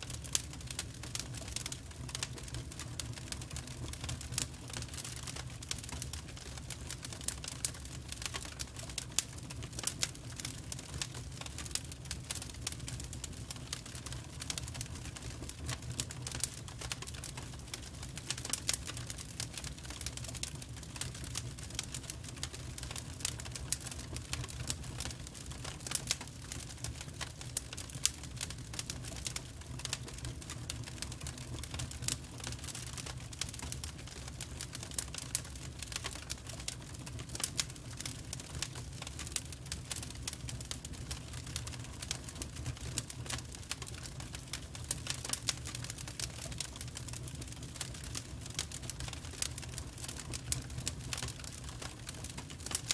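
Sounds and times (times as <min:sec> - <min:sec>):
fire low rumble: 0:00.0 - 0:52.9
firewood crackling and popping: 0:00.0 - 0:52.9.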